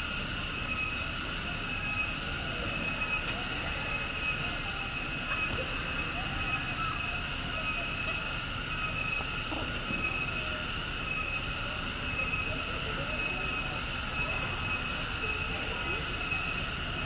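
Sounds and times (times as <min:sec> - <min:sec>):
cicadas singing: 0:00.0 - 0:17.0.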